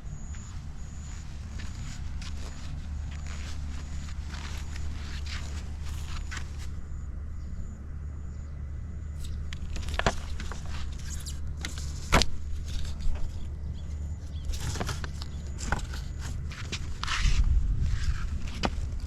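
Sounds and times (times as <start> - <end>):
small engine idling: 0.0 - 17.3.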